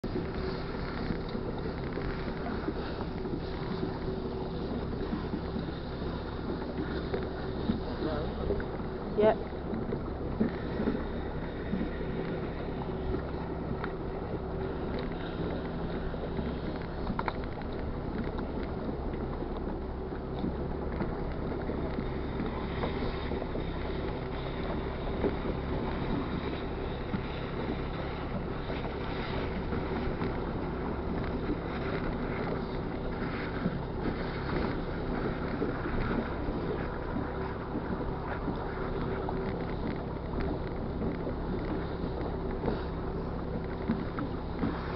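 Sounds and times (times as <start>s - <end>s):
motorboat engine humming: 0.0s - 44.9s
wind buffeting microphone: 0.0s - 44.9s.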